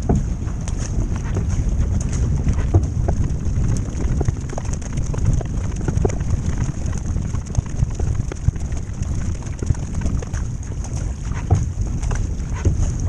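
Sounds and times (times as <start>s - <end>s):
paddle splashes: 0.0s - 13.0s
water rushing past hull: 0.0s - 13.0s
wind buffeting microphone: 0.0s - 13.0s.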